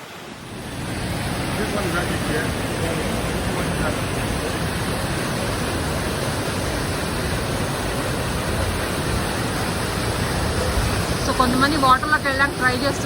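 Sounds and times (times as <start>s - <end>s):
river and waterfall rushing: 0.0s - 13.0s.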